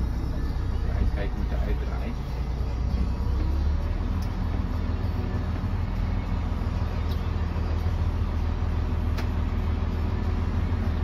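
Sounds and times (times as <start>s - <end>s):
van engine low rumble: 0.0s - 11.0s.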